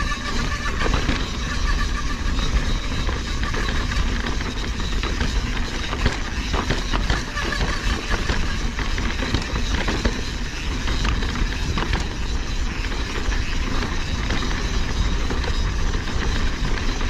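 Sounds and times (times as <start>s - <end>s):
bike knocking and rattling: 0.0s - 17.0s
bike tyres rumbling on rocks: 0.0s - 17.0s.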